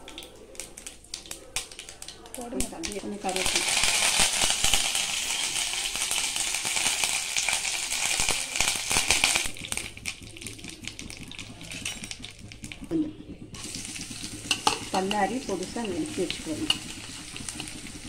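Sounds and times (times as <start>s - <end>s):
seeds spluttering in hot oil: 0.0s - 18.0s.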